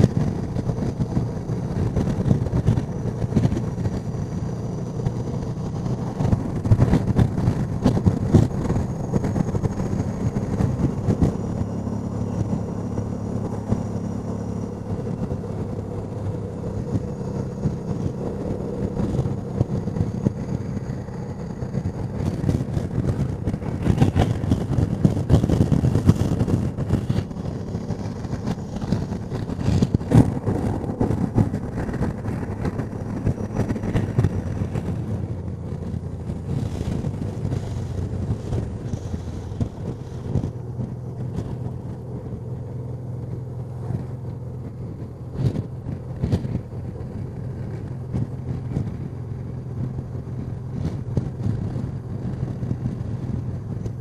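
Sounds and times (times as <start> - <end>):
motorcycle engine cruising: 0.0 - 54.0
wind on microphone: 0.0 - 54.0.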